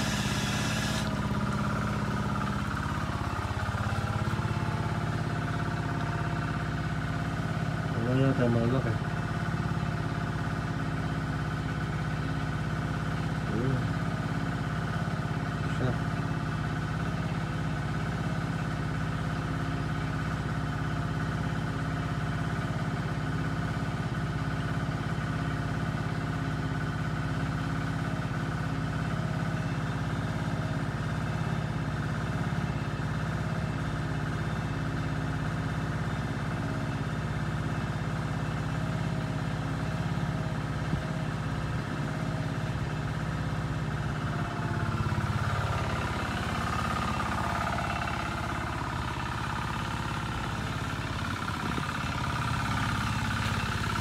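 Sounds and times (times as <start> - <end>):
small engine humming steadily: 0.0 - 54.0.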